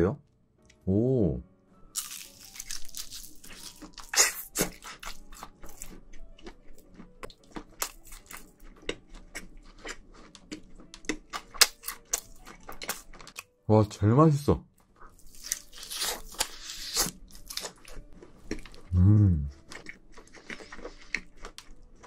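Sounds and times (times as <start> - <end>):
crunching bite: 1.9 - 13.4, 15.3 - 22.0
wet chewing: 2.0 - 13.4, 15.0 - 18.9, 19.5 - 22.0.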